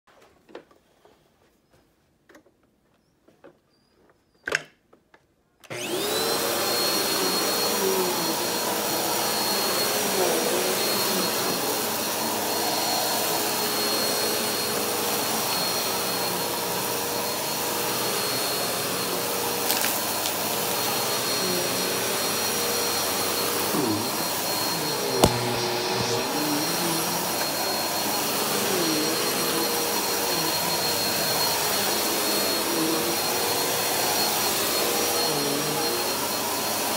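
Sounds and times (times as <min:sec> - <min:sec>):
vacuum cleaner motor whine: 0:05.6 - 0:36.9.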